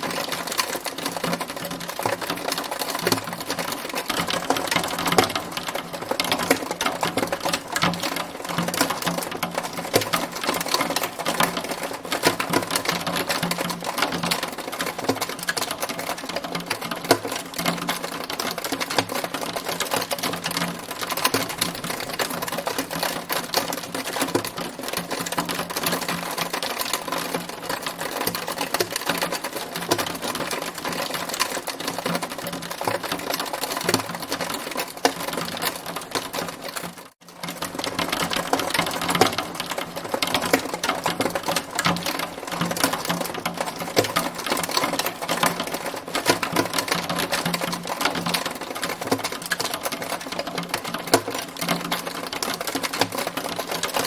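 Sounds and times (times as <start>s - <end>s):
hail pelting a hard surface: 0.0s - 54.0s.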